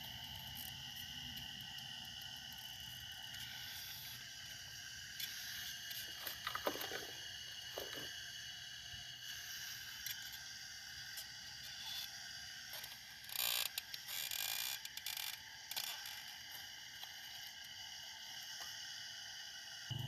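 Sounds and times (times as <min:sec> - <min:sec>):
high-pitched mechanical whine: 0:00.0 - 0:20.0.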